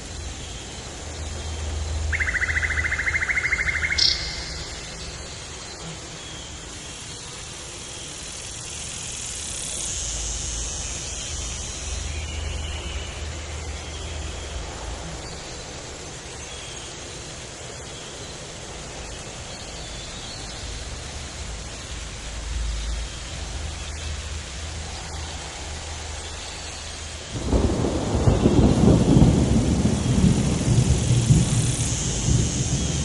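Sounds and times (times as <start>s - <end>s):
insects chirring: 0.0s - 33.0s
steady hiss: 0.0s - 33.0s.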